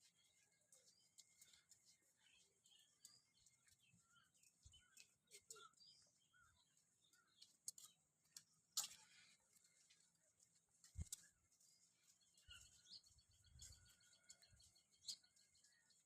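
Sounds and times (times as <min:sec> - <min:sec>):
faint bird chirps: 0:00.0 - 0:10.1, 0:10.9 - 0:16.0.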